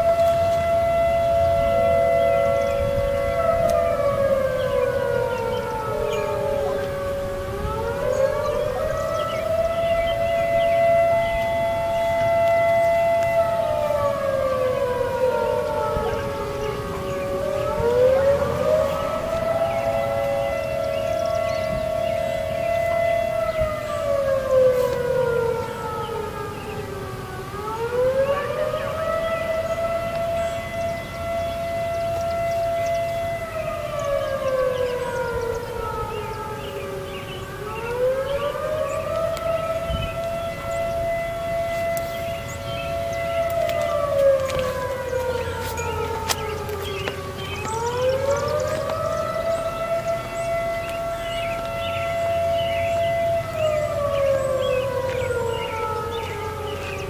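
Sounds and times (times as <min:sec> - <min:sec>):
dual-tone warning siren: 0:00.0 - 0:57.0.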